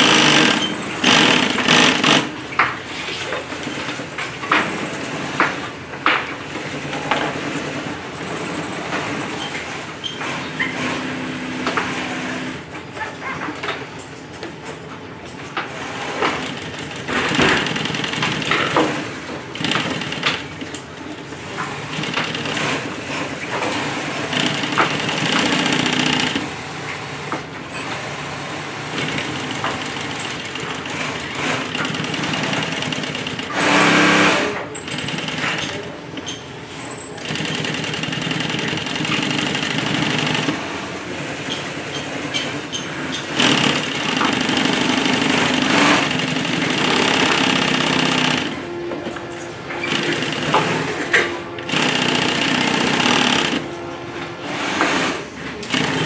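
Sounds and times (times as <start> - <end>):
industrial sewing machine stitching: 0.0 - 13.0, 15.6 - 56.0.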